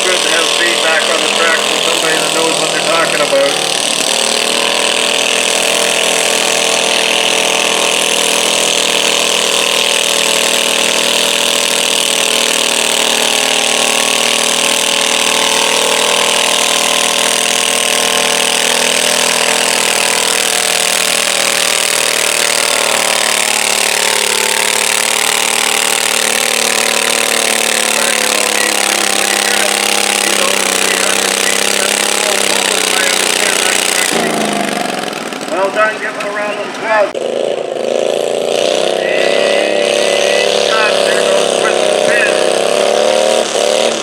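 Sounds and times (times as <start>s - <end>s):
garden tractor engine under load: 0.0s - 44.0s.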